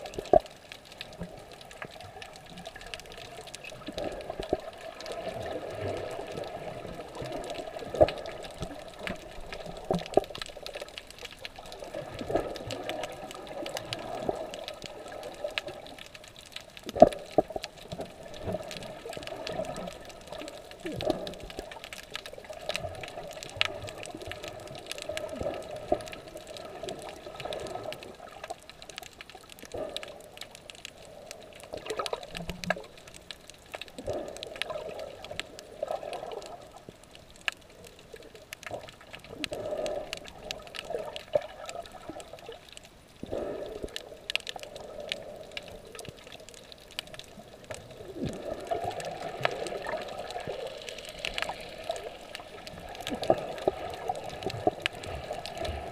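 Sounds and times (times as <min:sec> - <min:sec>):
water sloshing underwater: 0:00.0 - 0:55.9.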